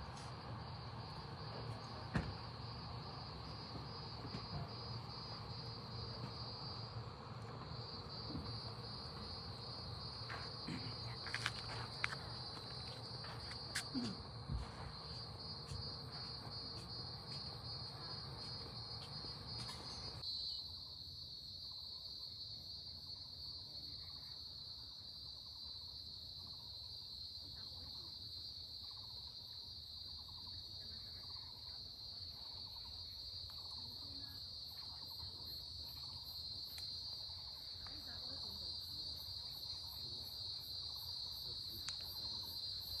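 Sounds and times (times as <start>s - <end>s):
shrill insect chorus: 0.0s - 43.0s.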